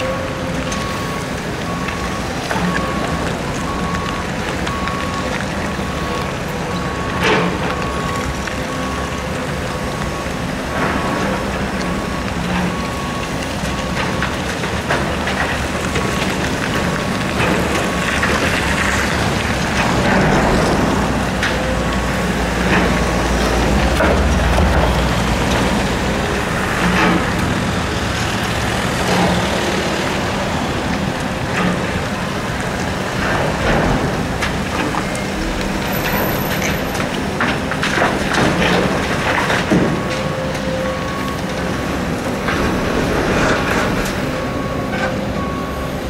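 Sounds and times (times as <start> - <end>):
excavator diesel engine and hydraulics: 0.0 - 46.0.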